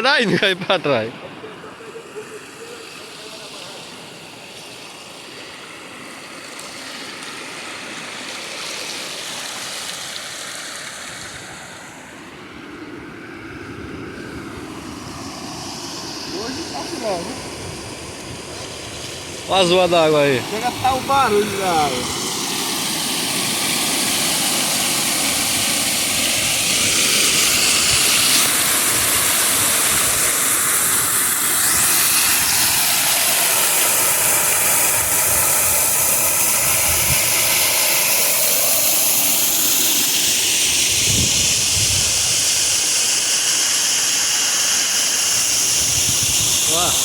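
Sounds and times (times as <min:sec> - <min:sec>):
floodwater rushing: 0:00.0 - 0:47.0.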